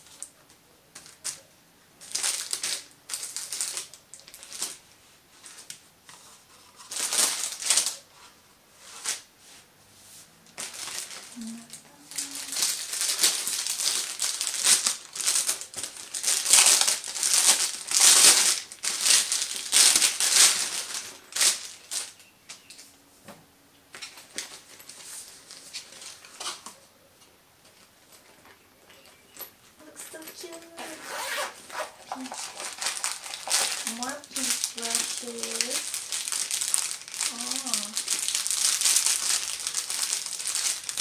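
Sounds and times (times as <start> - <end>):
plastic packaging crinkling: 2.0 - 8.3, 10.6 - 22.9, 23.9 - 26.8, 27.8 - 41.0.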